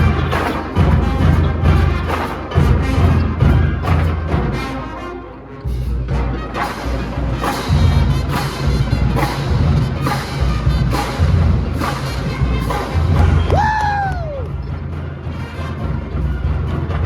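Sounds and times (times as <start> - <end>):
heavy drum beats: 0.0 - 4.8, 5.7 - 17.0
marching band playing: 0.0 - 17.0.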